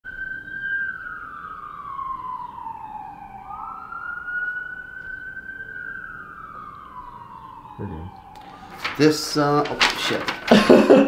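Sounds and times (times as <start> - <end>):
emergency vehicle siren wailing: 0.0 - 11.0.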